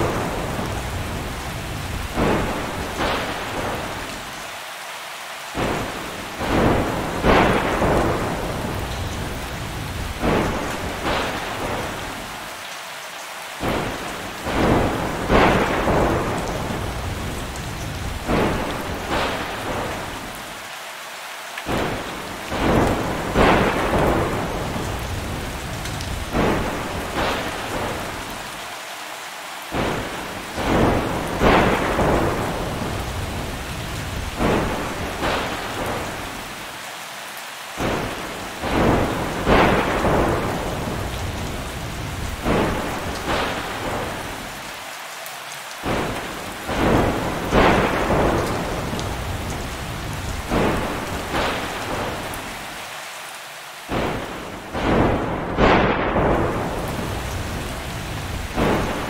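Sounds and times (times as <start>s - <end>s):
thunder claps rolling: 0.0s - 4.3s, 5.6s - 12.4s, 13.6s - 20.4s, 21.7s - 28.5s, 29.7s - 36.6s, 37.8s - 44.6s, 45.8s - 52.6s, 53.9s - 59.0s
heavy rain: 0.0s - 59.0s.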